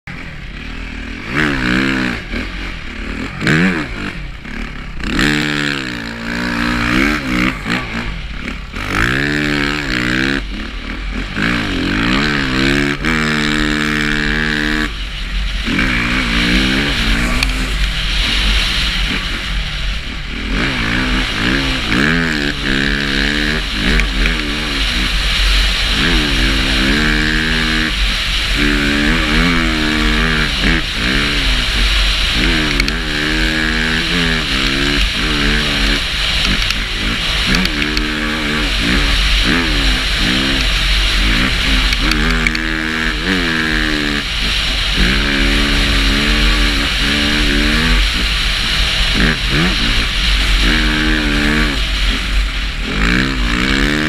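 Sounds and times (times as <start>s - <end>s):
dirt bike engine revving: 0.0s - 54.0s
low rumble: 0.0s - 54.0s.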